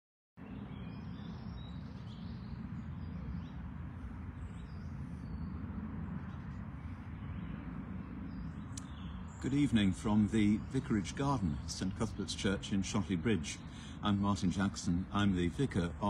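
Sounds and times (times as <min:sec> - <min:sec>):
low outdoor rumble: 0:00.4 - 0:16.0
small birds twittering: 0:00.4 - 0:16.0.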